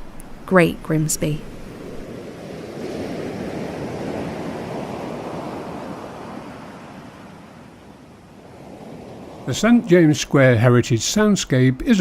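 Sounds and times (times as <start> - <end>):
sea waves washing in: 0.0 - 11.0.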